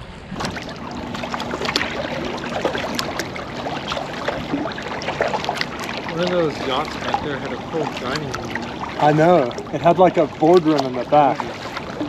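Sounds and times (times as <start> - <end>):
water trickling: 0.1 - 12.0
paddle splashes and drips: 0.2 - 12.0.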